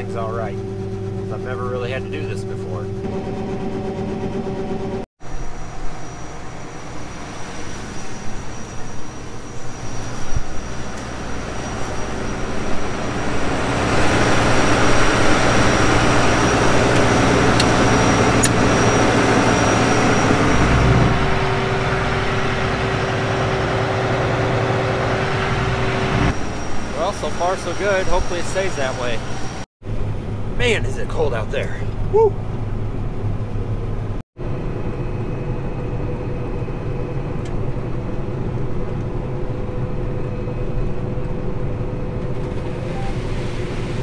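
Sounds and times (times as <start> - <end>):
combine harvester machinery: 0.0 - 44.0
steady hum: 0.0 - 44.0.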